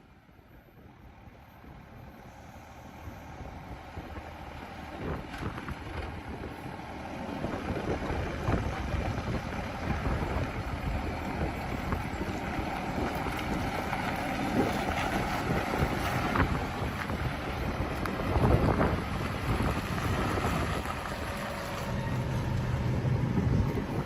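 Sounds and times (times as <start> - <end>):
wind buffeting microphone: 3.2 - 24.0.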